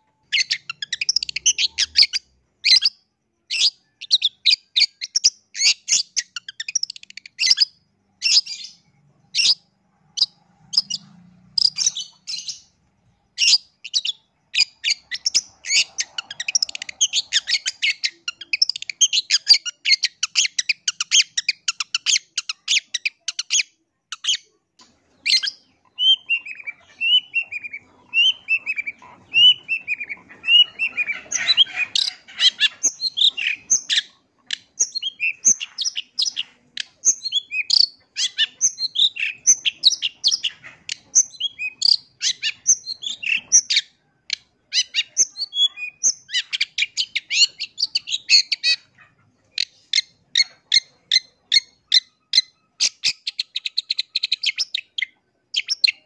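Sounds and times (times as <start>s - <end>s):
bird chattering song: 0.0s - 56.0s.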